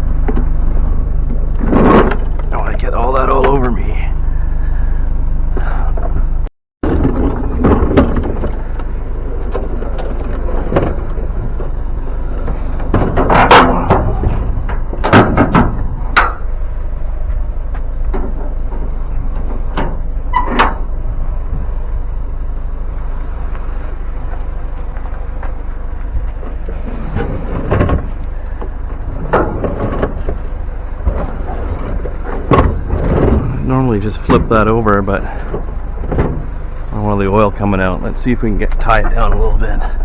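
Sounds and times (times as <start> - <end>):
knocks and clunks of lawn mower: 0.0 - 3.9, 5.5 - 21.6, 23.1 - 40.0
vehicle engine idling: 0.0 - 40.0.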